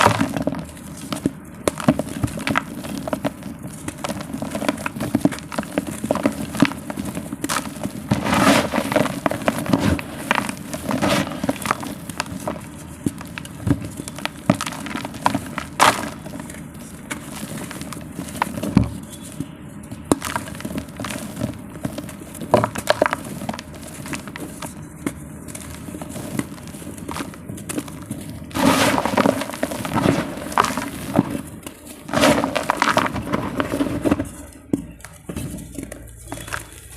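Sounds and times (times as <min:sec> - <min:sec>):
dry clay crumbling and crunching: 0:00.0 - 0:36.9.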